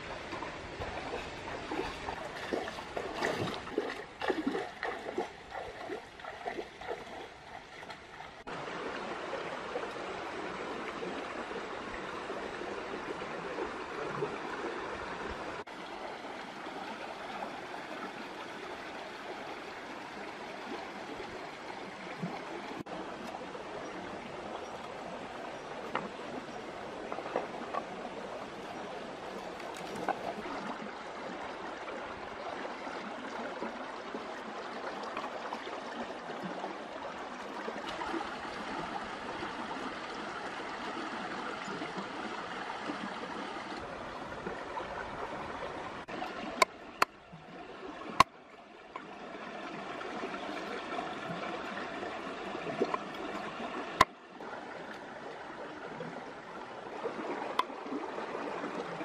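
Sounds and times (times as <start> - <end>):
stream water running over rocks: 0.0 - 59.0.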